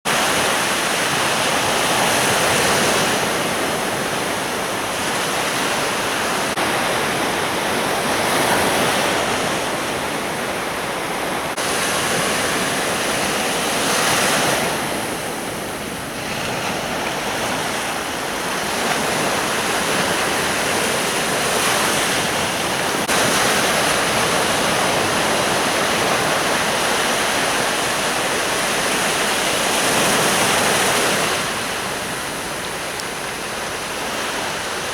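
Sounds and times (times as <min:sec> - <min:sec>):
sea waves breaking on beach: 0:00.1 - 0:34.9.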